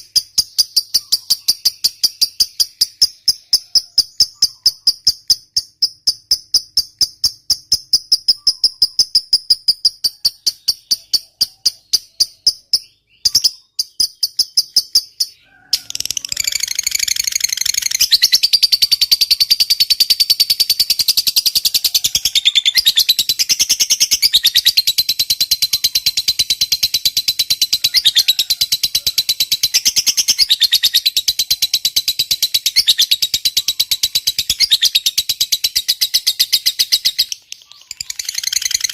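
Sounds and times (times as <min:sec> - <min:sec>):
fast high chirps: 0:00.0 - 0:38.9
lovebird chattering trill: 0:00.0 - 0:38.9.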